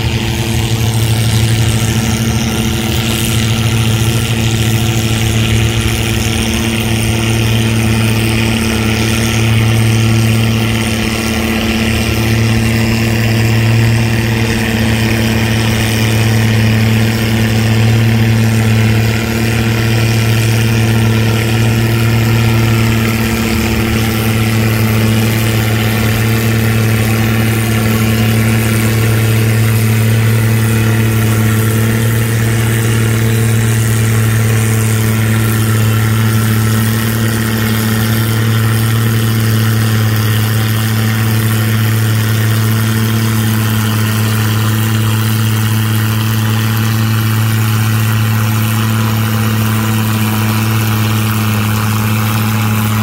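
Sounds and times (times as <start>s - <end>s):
tractor engine running steadily: 0.0s - 53.0s.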